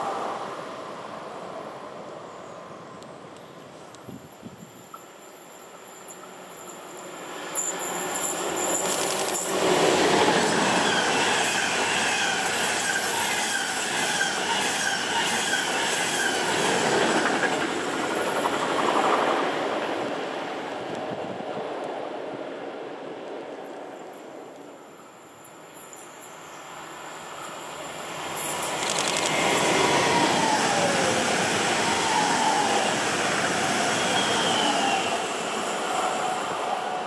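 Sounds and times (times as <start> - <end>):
train passing on rails: 0.0 - 37.0.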